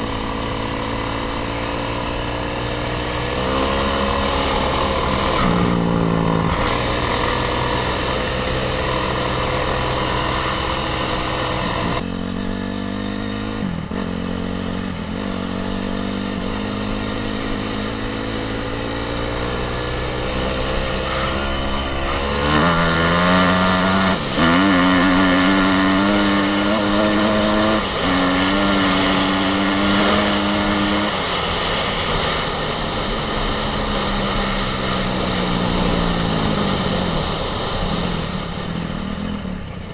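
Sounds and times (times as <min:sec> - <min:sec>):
off-road engine revving: 0:00.0 - 0:39.9.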